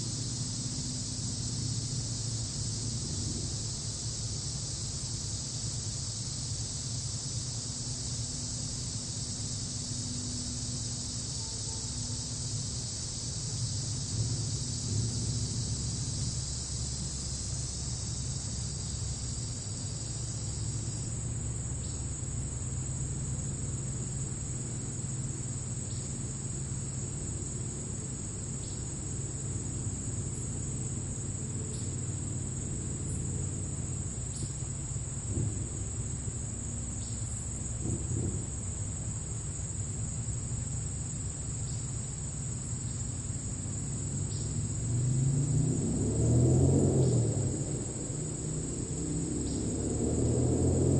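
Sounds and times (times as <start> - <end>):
crickets chirring: 0.0 - 50.9
low steady rumble: 0.0 - 50.9.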